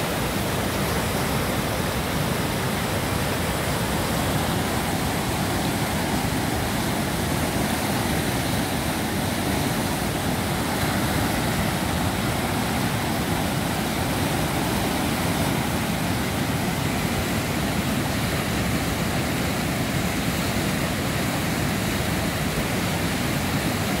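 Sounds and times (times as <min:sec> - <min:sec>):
river rushing over a weir: 0:00.0 - 0:24.0.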